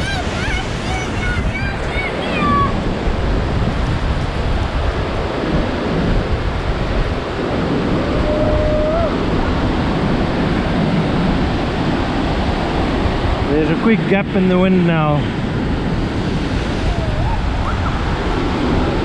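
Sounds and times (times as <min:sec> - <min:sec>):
rush of falling water: 0:00.0 - 0:19.0
wind buffeting microphone: 0:00.0 - 0:19.0.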